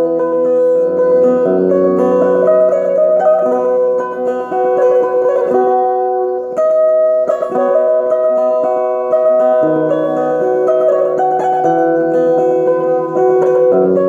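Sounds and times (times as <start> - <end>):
plucked lute melody: 0.0 - 14.0.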